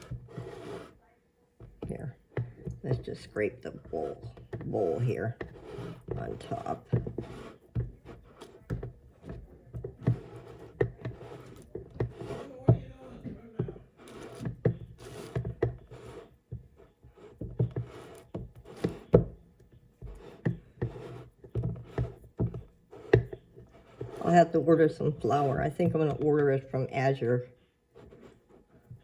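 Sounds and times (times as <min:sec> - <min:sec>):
spatula scraping a mixing bowl: 0:00.0 - 0:01.0, 0:01.6 - 0:29.0.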